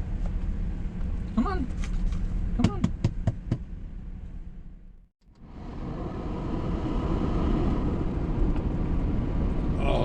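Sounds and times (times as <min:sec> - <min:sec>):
vehicle cabin rumble: 0:00.0 - 0:10.0.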